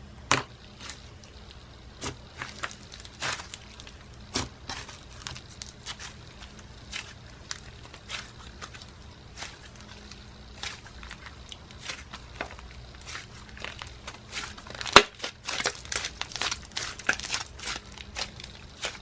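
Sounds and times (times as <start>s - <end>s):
slime squishing crackles and pops: 0.3s - 19.0s.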